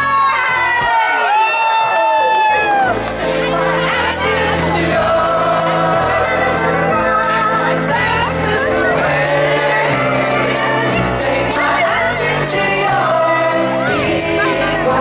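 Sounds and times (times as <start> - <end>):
keyboard: 2.0 - 15.0
accordion: 2.9 - 15.0
person singing: 2.9 - 15.0.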